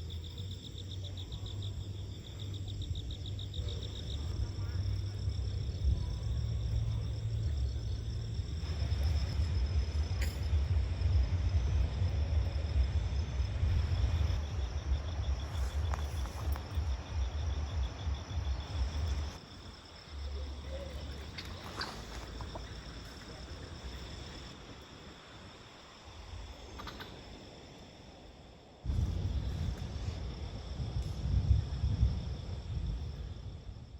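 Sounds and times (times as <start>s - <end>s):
low rumble: 0.0s - 24.5s, 28.8s - 33.9s
insects trilling: 0.0s - 33.9s.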